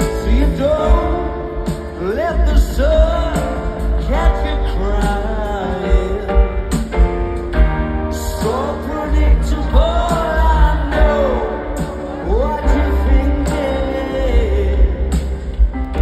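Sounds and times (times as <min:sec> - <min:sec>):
male lead vocal: 0:00.0 - 0:07.0, 0:08.0 - 0:16.0
rock band playing: 0:00.0 - 0:16.0.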